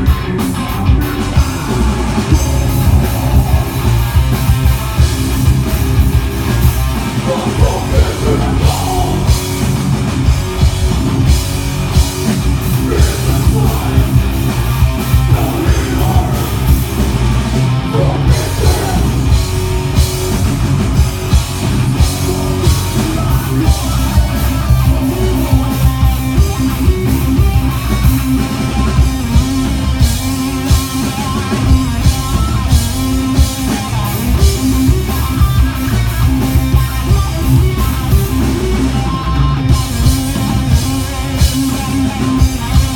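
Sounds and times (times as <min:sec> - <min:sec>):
metal band playing live: 0:00.0 - 0:42.9.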